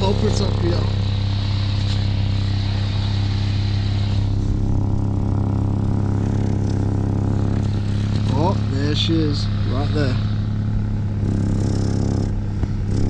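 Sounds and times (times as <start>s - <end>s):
car engine idling: 0.0s - 13.0s
exhaust hissing: 0.0s - 13.0s.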